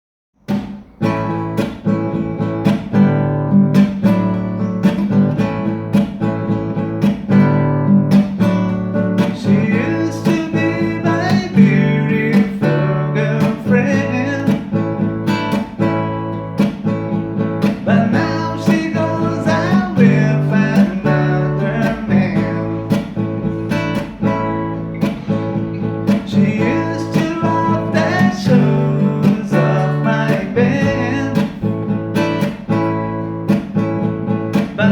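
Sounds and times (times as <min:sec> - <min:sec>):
acoustic guitar rhythm: 0:00.4 - 0:34.9.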